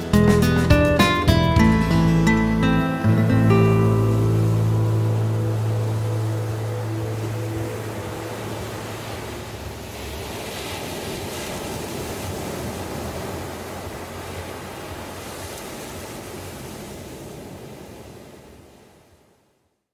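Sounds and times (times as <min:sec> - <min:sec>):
sea surf washing onto beach: 0:02.2 - 0:19.2.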